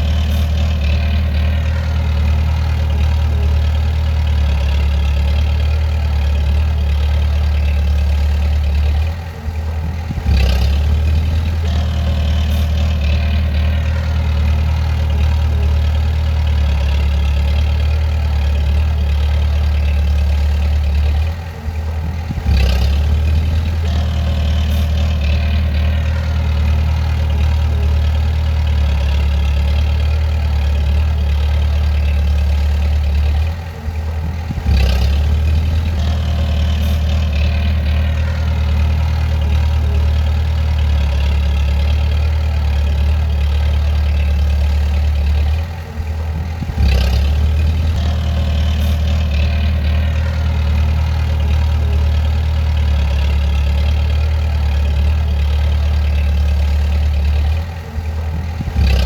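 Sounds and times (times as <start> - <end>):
diesel engine low hum: 0.0 - 59.0.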